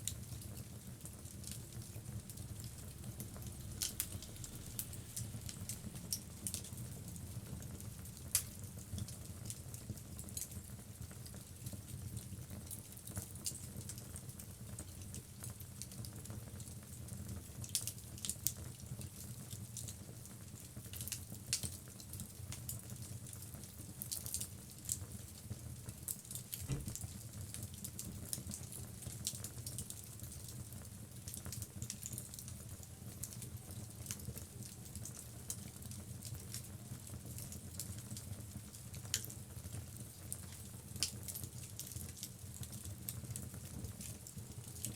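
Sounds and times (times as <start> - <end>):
fireplace logs crackling and popping: 0.0 - 44.9
low fire rumble: 0.0 - 44.9.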